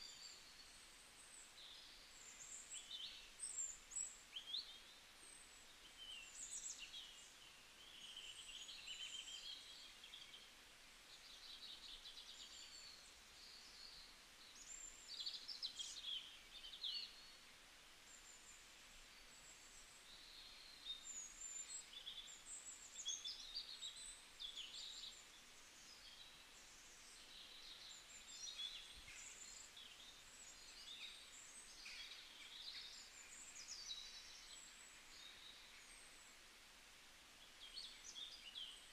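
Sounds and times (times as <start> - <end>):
small birds chirping and trilling: 0.0 - 36.5, 37.4 - 38.9
low steady hiss: 0.0 - 38.9.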